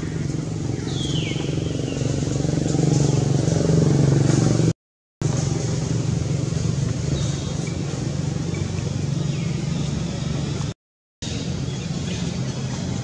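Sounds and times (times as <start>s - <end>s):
motor engine pulsing hum: 0.0s - 13.0s.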